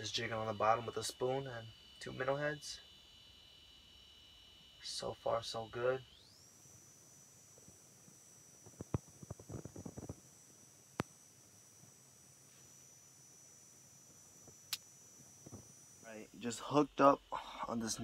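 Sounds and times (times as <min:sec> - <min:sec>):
faint high whine: 0:00.0 - 0:18.0.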